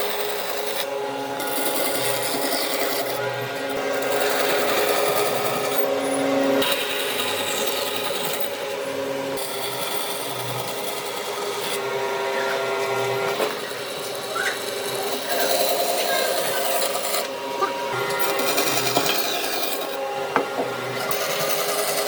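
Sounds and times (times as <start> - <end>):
power tool motor: 0.0 - 22.0
tool scraping wood: 0.0 - 22.0.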